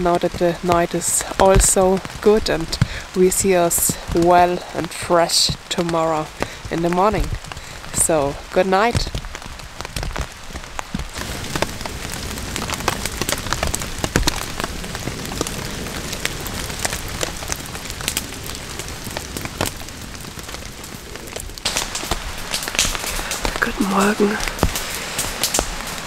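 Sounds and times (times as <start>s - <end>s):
sharp raindrop hits: 0.0s - 26.0s
steady rain falling: 0.0s - 26.0s.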